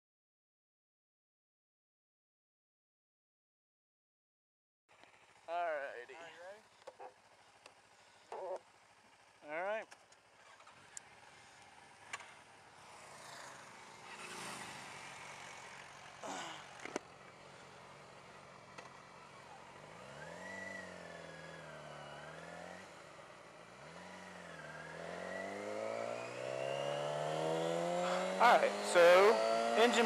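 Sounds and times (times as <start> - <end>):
motorcycle engine revving: 4.9 - 30.0.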